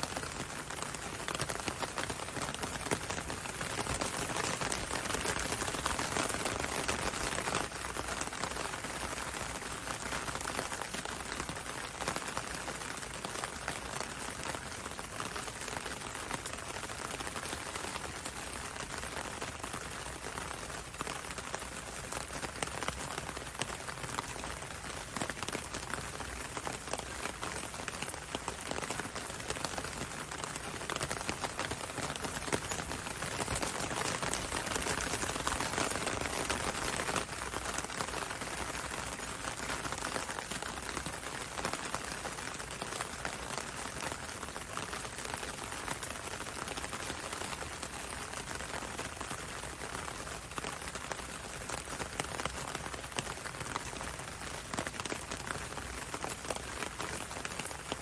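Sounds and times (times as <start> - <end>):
rain pattering on window and road: 0.0 - 58.0.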